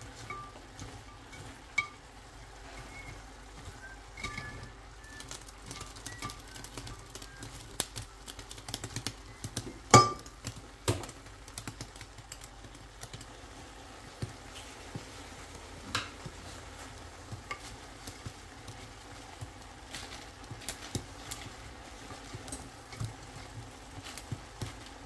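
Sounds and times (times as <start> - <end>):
tongs clicking and scraping pan: 0.0 - 13.4, 15.9 - 25.0
faint sizzle: 0.0 - 25.0.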